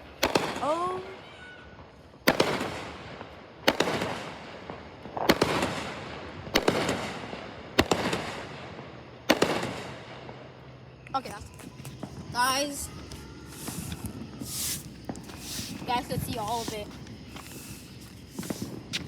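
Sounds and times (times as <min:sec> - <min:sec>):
fireworks banging: 0:00.0 - 0:01.1, 0:02.2 - 0:19.0.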